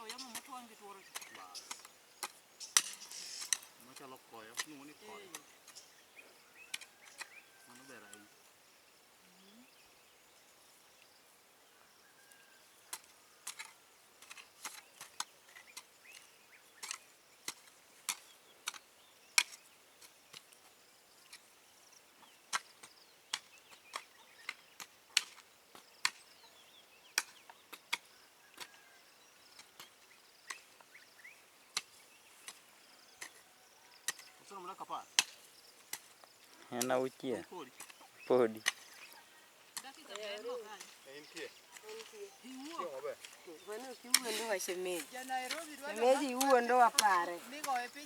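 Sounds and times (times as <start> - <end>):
quiet outdoor background: 0.0 - 48.0.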